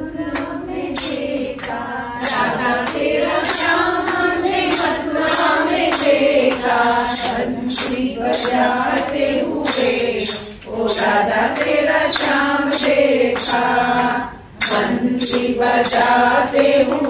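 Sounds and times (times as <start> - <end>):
women singing together: 0.0 - 17.0
hand claps: 0.1 - 17.0.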